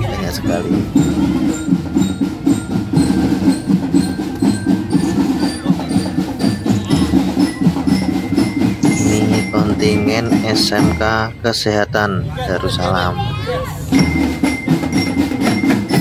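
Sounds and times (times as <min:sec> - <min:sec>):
rapid drum strikes: 0:00.0 - 0:11.4, 0:13.9 - 0:16.0
ringing pitched tones: 0:00.0 - 0:13.0, 0:13.8 - 0:16.0
parade music: 0:00.0 - 0:16.0.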